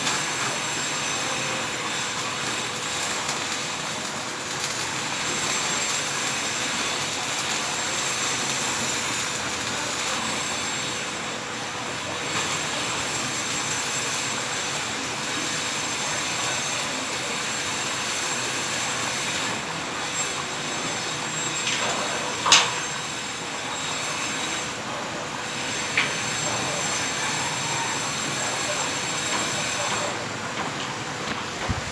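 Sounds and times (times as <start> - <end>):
arc welding crackle: 0.0 - 31.9.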